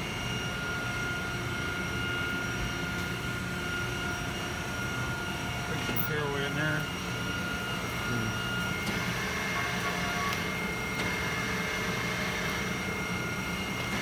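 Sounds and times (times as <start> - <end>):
machinery humming and whining: 0.0 - 14.0.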